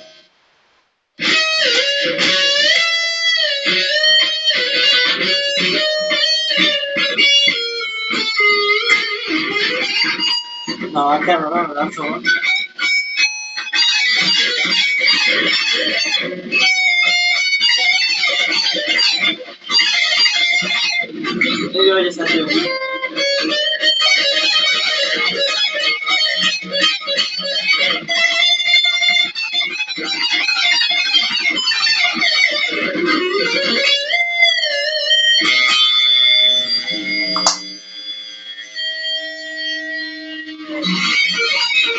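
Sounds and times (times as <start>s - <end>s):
fast electric guitar solo: 1.2s - 41.9s.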